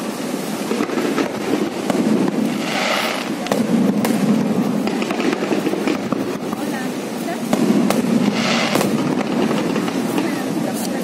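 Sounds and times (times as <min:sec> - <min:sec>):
fireworks crackling: 0:00.0 - 0:11.0
firework shells bursting: 0:00.6 - 0:11.0.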